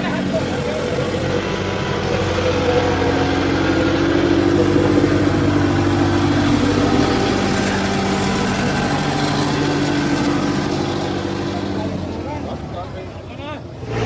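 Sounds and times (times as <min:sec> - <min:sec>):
tractor engines under heavy load: 0:00.0 - 0:14.0.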